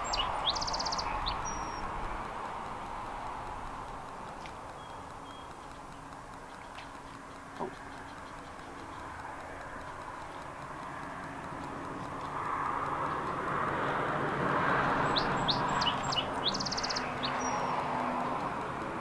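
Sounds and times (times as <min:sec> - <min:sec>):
songbird chirps and trill: 0:00.0 - 0:19.0.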